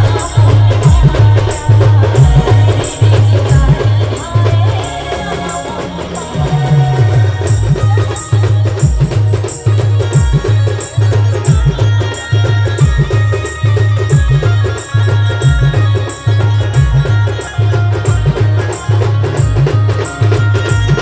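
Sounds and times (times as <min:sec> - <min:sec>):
heavy low drum beat: 0:00.0 - 0:21.0
ticking high percussion: 0:00.0 - 0:21.0.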